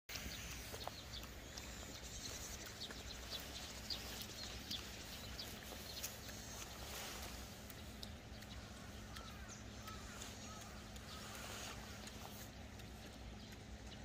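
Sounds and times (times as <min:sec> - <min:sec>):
low steady outdoor rumble: 0:00.1 - 0:14.0
small birds chirping: 0:00.1 - 0:14.0.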